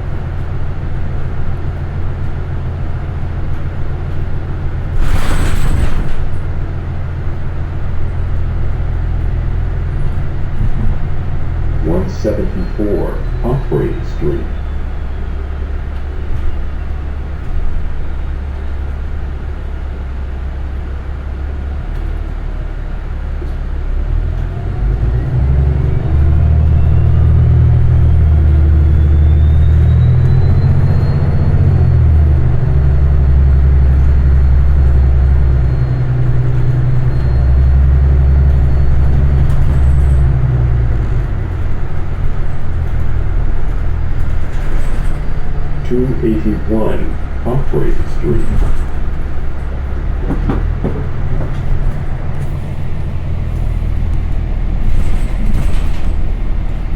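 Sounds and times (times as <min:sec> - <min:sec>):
bus engine rumble: 0:00.0 - 0:56.9.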